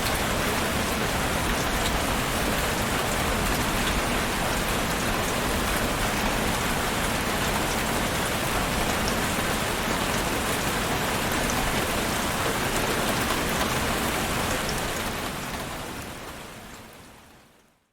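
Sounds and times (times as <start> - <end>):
heavy rain falling: 0.0 - 17.5.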